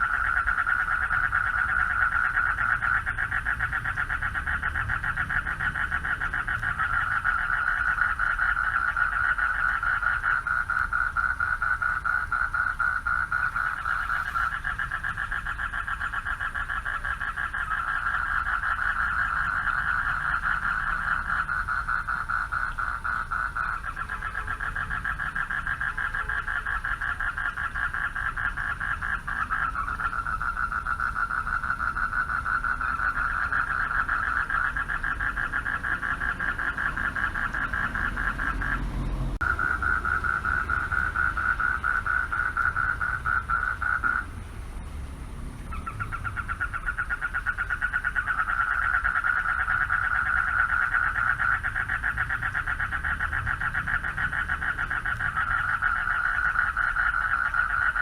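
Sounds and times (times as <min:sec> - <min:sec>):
frogs trilling: 0:00.0 - 0:44.5, 0:45.4 - 0:58.0.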